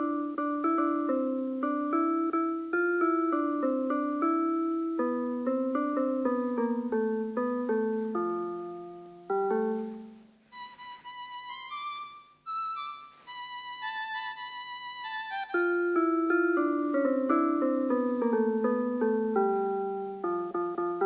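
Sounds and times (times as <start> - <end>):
electric piano keyboard melody: 0.0 - 21.0.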